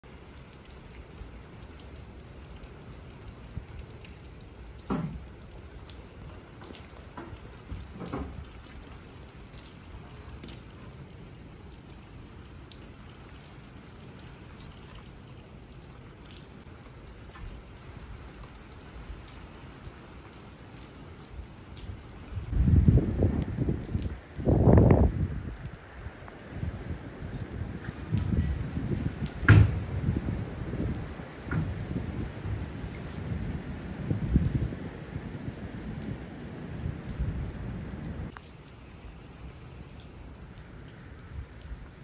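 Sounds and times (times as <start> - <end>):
drips ticking on surfaces: 0.0 - 34.8, 35.8 - 42.0
light rain hiss: 0.0 - 42.0.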